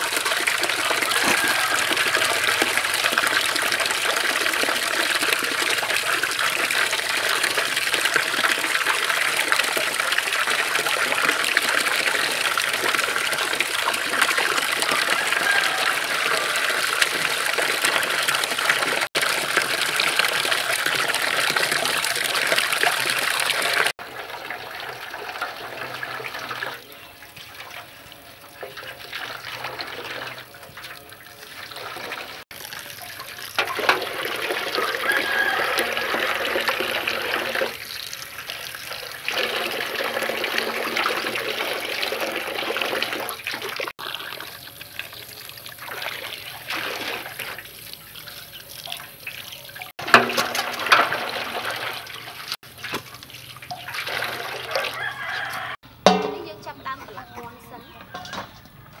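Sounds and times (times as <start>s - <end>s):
tap water splashing into metal basin: 0.0s - 56.8s
hands rubbing chickens in water: 0.0s - 58.0s.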